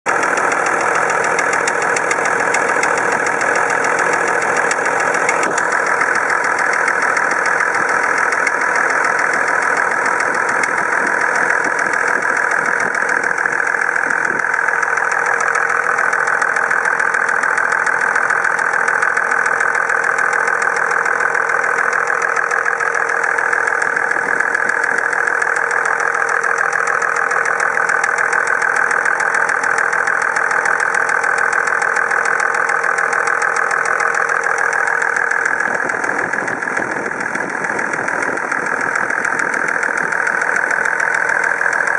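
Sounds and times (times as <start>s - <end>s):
diesel engine running: 0.0s - 41.9s
fast rattle inside engine: 0.0s - 41.9s.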